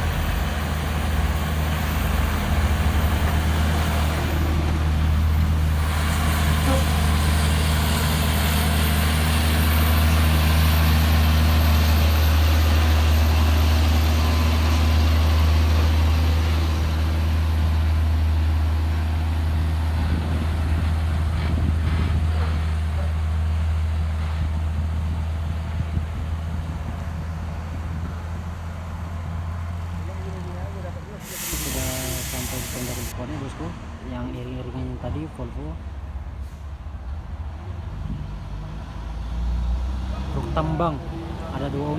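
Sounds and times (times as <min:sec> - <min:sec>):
heavy truck engines labouring: 0:00.0 - 0:41.9
road noise: 0:00.0 - 0:41.9.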